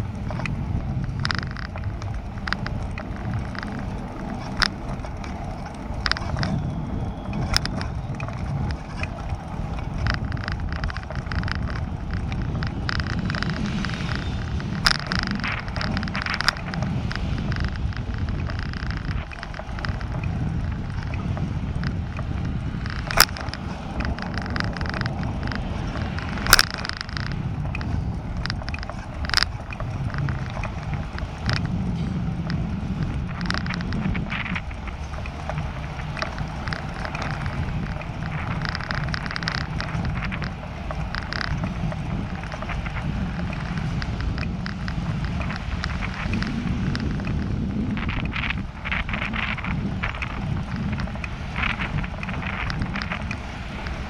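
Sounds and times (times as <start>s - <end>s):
bicycle clicks and rattles: 0.0s - 54.0s
bicycle tyres rumbling: 0.0s - 54.0s.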